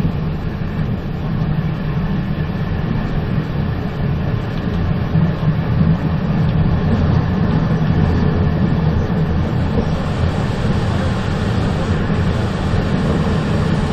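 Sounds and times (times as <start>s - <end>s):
moving train rumbling: 0.0s - 13.9s.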